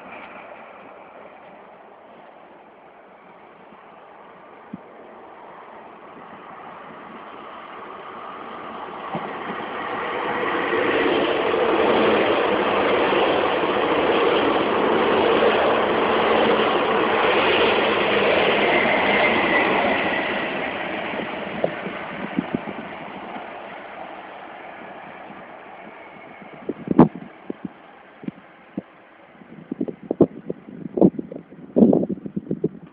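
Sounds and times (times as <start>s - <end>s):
train wheels on rails: 0.0s - 32.9s.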